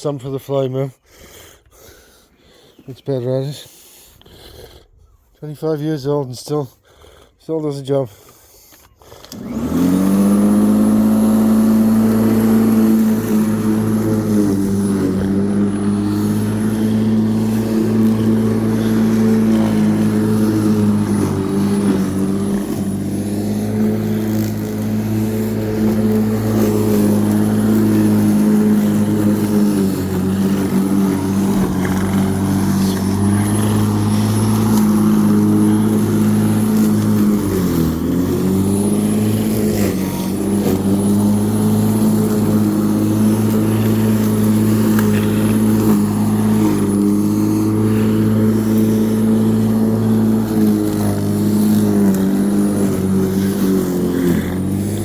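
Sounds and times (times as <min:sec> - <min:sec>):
electric lawnmower running: 0:09.1 - 0:55.0.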